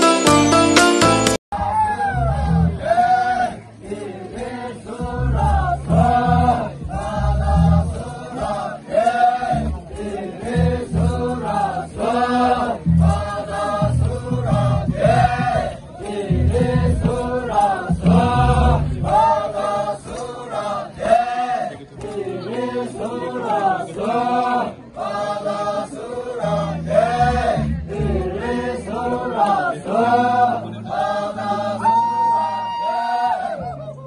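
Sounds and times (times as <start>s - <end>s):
group chanting in unison: 2.7s - 31.8s.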